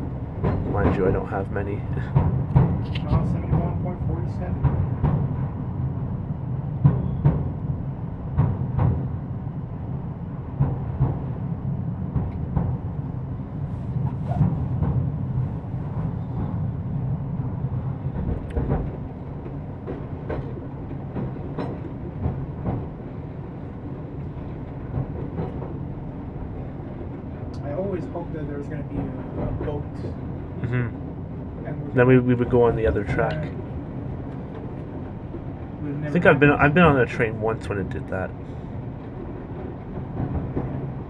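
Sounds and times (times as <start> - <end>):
train low rumble: 0.0 - 41.0.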